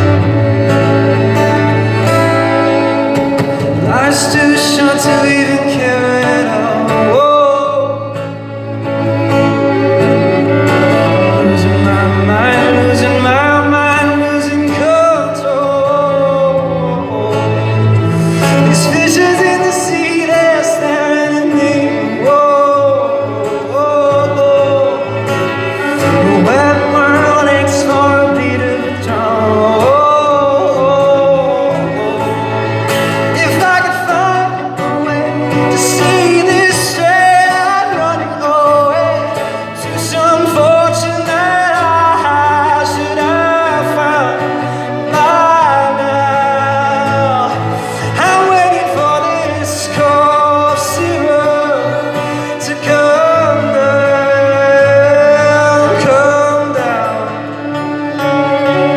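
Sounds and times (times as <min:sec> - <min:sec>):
instrumental accompaniment: 0:00.0 - 0:58.9
man singing a pop song: 0:00.0 - 0:58.9.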